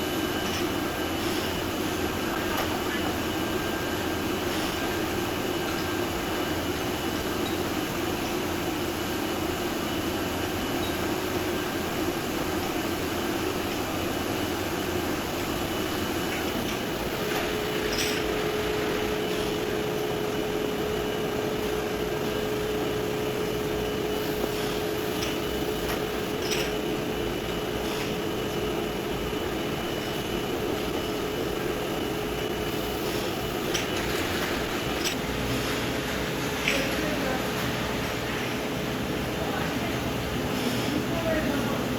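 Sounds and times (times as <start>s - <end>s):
machinery hum and hiss: 0.0s - 41.9s.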